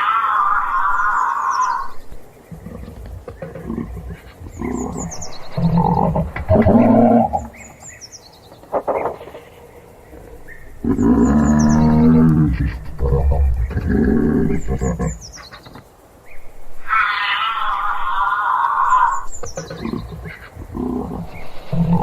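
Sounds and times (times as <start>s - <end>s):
giraffe humming: 0.0s - 7.8s, 9.2s - 15.2s, 16.8s - 22.0s.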